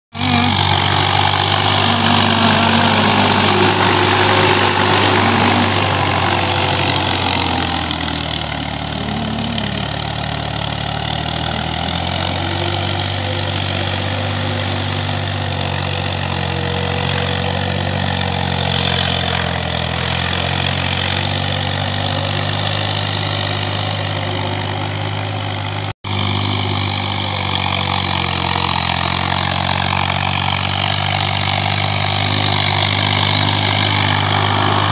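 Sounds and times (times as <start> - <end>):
tractor engine under load: 0.1 - 34.9.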